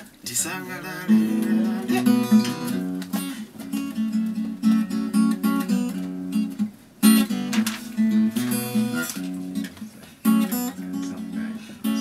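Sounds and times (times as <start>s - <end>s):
acoustic guitar riff: 0.0s - 12.0s.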